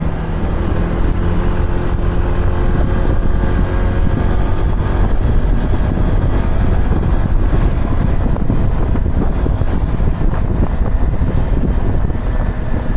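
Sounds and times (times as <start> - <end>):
scooter engine running: 0.0 - 12.9
wind rumbling on microphone: 0.0 - 12.9.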